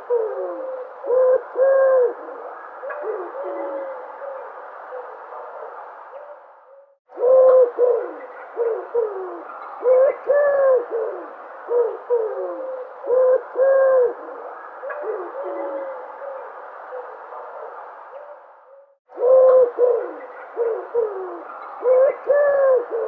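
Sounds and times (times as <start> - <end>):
dove cooing: 0.0 - 23.0
steady background hiss: 0.0 - 23.0.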